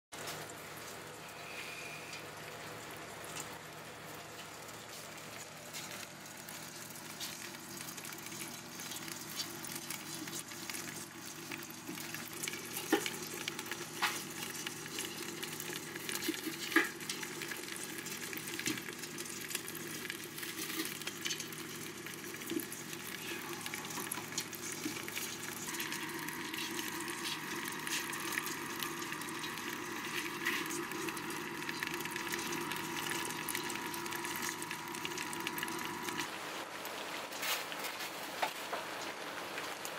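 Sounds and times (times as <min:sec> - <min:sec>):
crabs crackling and clicking in pot: 0:02.1 - 0:36.3.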